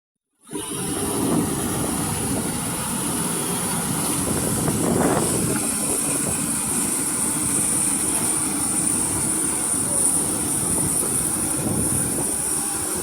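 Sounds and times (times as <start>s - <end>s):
combine harvester running: 0.4s - 13.0s.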